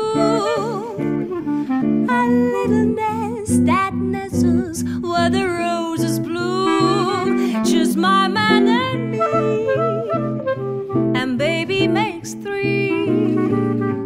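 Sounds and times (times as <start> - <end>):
guitar strumming swing chords: 0.0 - 14.0
woman singing jazz: 0.0 - 14.0.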